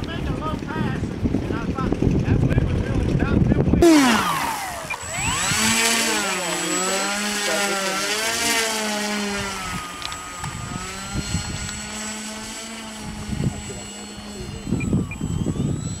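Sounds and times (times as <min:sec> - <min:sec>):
model airplane motor whining: 0:00.0 - 0:16.0
wind buffeting: 0:00.0 - 0:16.0.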